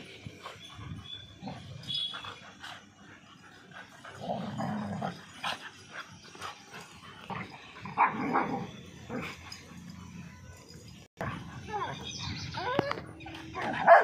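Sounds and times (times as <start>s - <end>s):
dogs growling and barking: 0.1s - 14.0s.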